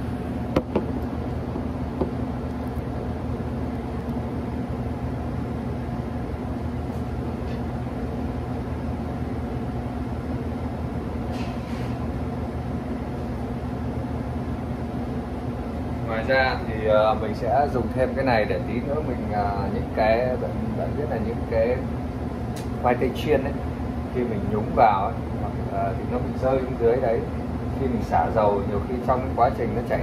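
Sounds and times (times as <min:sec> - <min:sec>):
kitchen machinery humming: 0:00.0 - 0:30.0.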